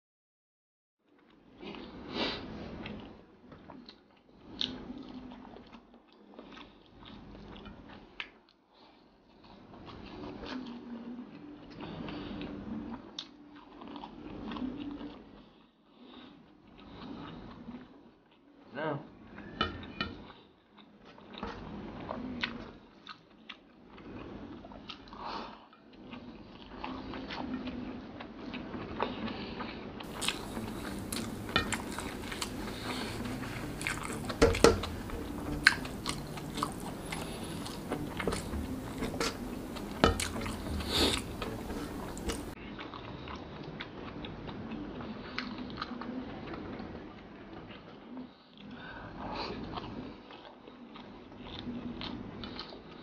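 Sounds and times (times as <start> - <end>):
person chewing with mouth sounds: 1.6 - 18.4, 19.8 - 46.8, 48.6 - 53.0.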